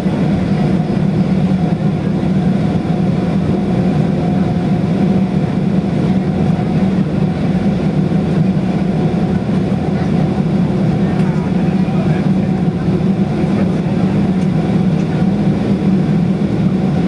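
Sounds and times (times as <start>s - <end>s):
jet engines idling in cabin: 0.0s - 17.0s.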